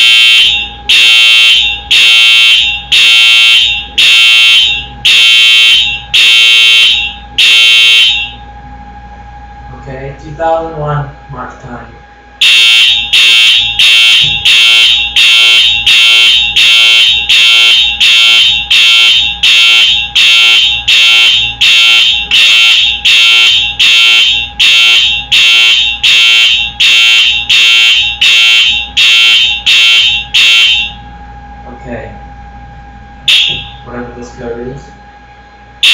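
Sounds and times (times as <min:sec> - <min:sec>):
fire alarm horn pulsing: 0:00.0 - 0:08.6, 0:12.4 - 0:32.1, 0:33.2 - 0:35.9.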